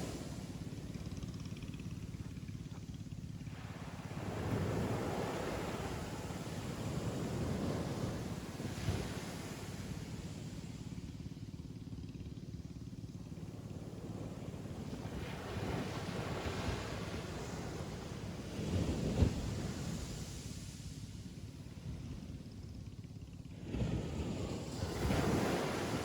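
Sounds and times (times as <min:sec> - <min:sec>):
ocean waves breaking on beach: 0:00.0 - 0:22.8, 0:23.4 - 0:26.0.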